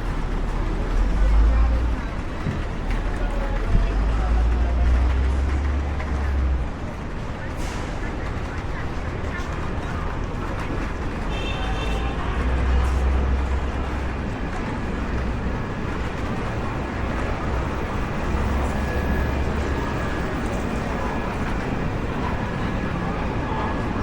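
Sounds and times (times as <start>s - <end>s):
city street background noise: 0.0s - 24.0s
faint voices: 0.0s - 24.0s.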